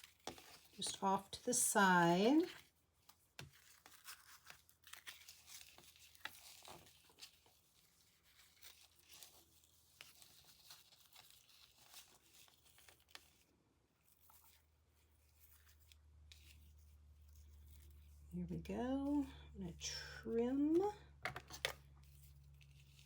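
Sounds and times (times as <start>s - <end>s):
ribbon rustling: 0.0s - 19.5s, 20.6s - 23.0s.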